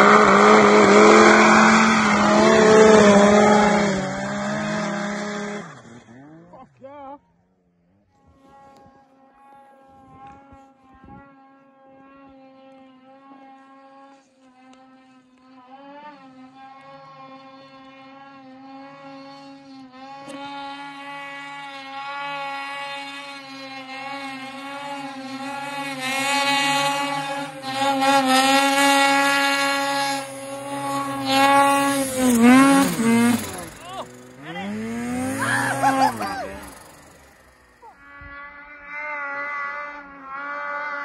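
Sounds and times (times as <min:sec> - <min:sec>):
lower engine note: 0:00.0 - 0:41.0
snowmobile engines revving: 0:00.0 - 0:41.0.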